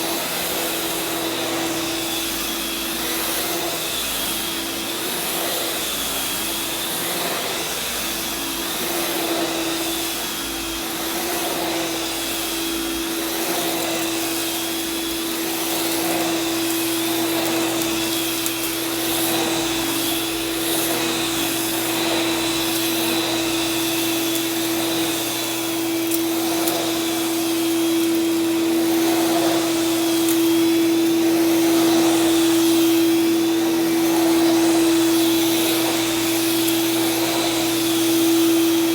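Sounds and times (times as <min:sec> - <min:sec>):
vacuum cleaner running over carpet: 0:00.0 - 0:38.9.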